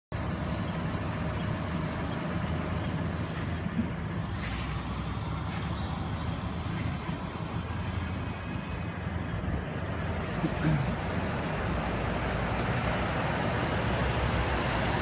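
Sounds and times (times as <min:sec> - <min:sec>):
tractor diesel engine droning: 0:00.1 - 0:15.0.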